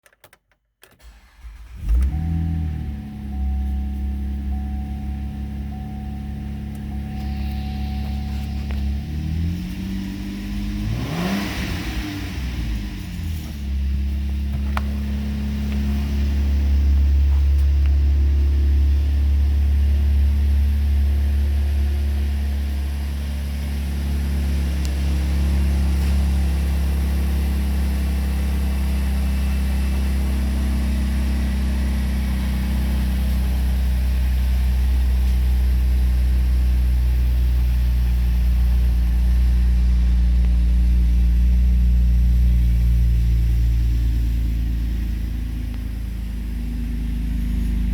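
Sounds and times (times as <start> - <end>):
car engine running steadily: 1.0 - 47.9.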